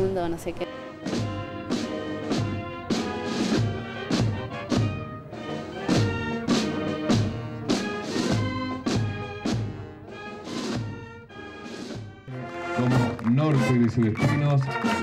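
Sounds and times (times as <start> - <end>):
brass band playing a march: 0.6 - 15.0.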